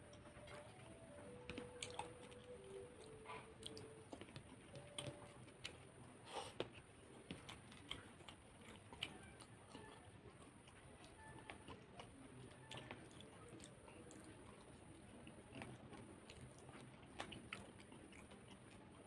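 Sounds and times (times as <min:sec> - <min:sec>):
eating with fingers clicks: 0:00.1 - 0:19.0
wet chewing smacks: 0:01.5 - 0:19.0.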